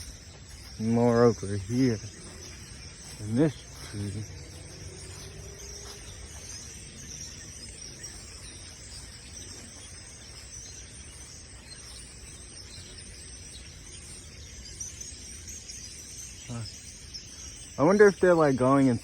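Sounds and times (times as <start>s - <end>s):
low rumble of wind: 0.0s - 18.1s
chorus of small animals calling: 0.0s - 19.0s.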